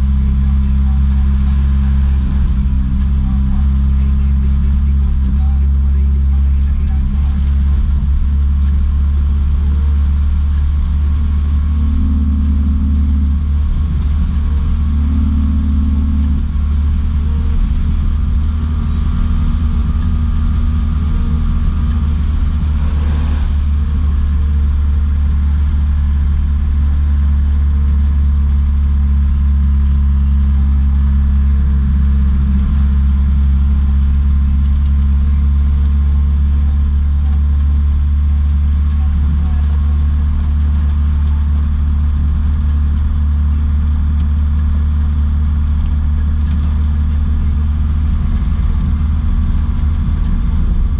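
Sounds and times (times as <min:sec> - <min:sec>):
truck engine droning: 0:00.0 - 0:50.9.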